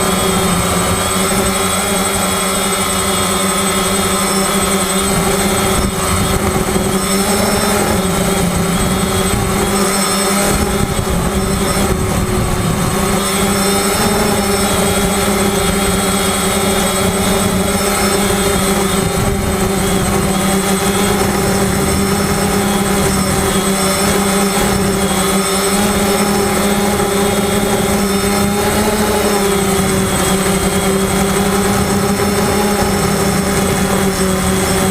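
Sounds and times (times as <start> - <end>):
drone propellers buzzing: 0.0 - 34.9.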